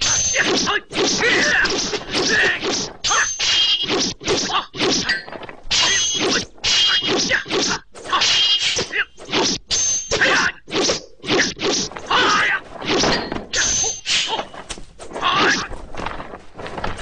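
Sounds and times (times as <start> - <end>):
fight blows and weapon strikes: 0.0 - 17.0.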